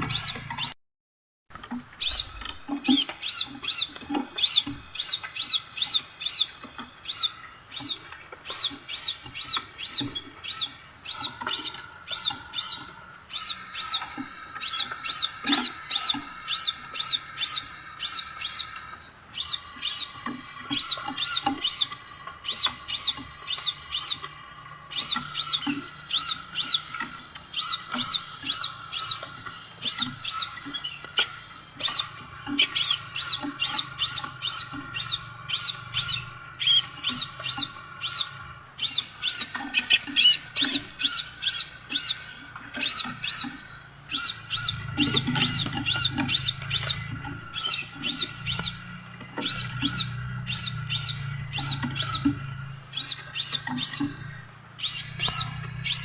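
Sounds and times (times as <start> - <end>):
bird whistling song: 0.0 - 0.8, 1.6 - 56.0.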